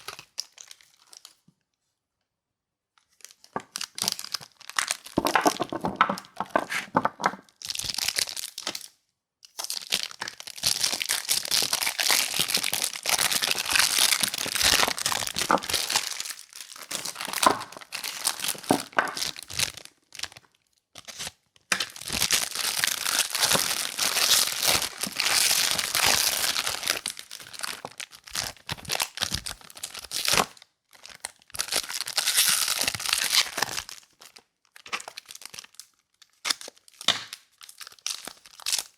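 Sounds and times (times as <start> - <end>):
wrappers crinkling and tearing: 3.1 - 38.9.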